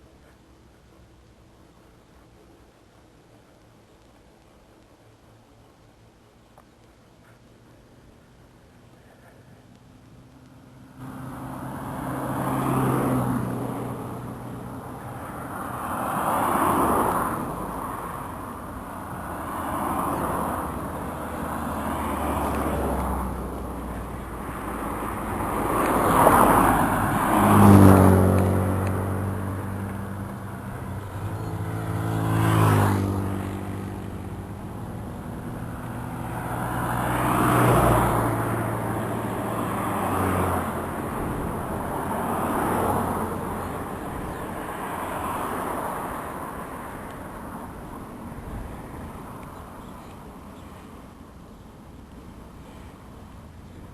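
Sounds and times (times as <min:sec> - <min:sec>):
vehicles passing: 0:00.0 - 0:53.9.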